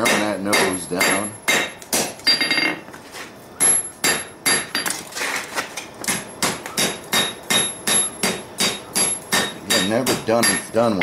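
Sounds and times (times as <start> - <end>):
hammer striking hot metal on anvil: 0.0 - 2.8, 3.6 - 4.8, 6.1 - 11.0.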